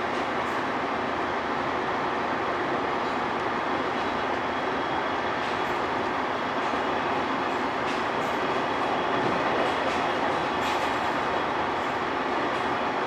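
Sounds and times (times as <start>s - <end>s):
railcar running rumble and hiss: 0.0s - 13.0s.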